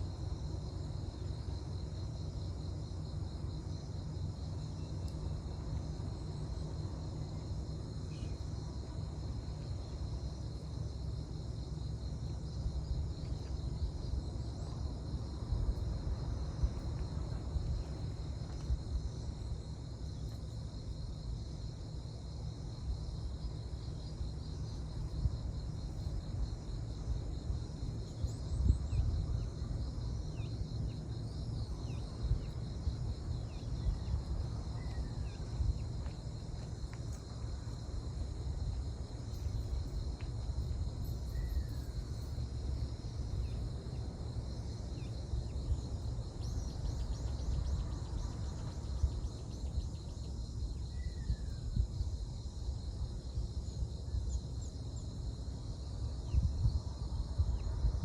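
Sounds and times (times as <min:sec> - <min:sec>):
steady low rumble: 0:00.0 - 0:55.0
crickets and insects chirring: 0:00.0 - 0:58.0.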